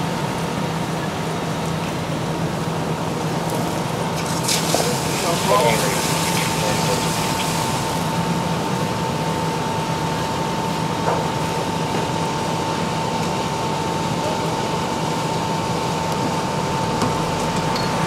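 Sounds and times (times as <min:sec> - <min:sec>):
fire engine pump droning: 0:00.0 - 0:18.0.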